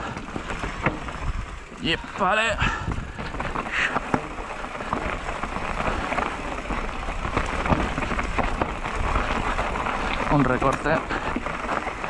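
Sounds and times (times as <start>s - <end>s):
bike rattling over rocks: 0.0s - 12.0s
tyres crunching over stones: 0.0s - 12.0s.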